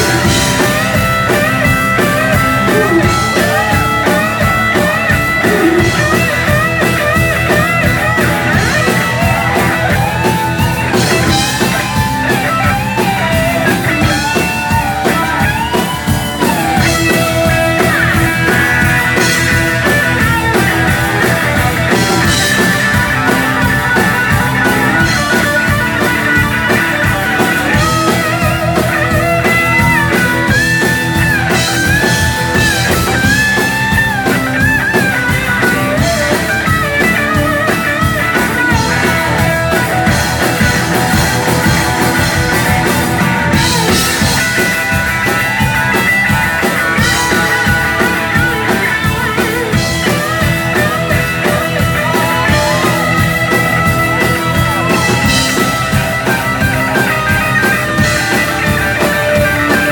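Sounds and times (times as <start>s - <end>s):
electric guitar lead: 0.0s - 59.9s
rock band playing: 0.0s - 59.9s.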